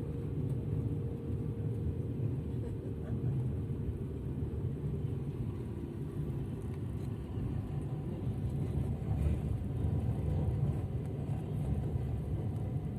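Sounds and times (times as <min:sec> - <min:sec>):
passenger train rumbling: 0:00.0 - 0:12.9.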